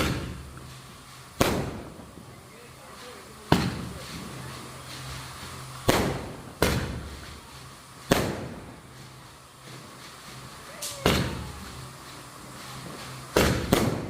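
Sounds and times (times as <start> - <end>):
firecrackers banging with echo: 0.0 - 14.0.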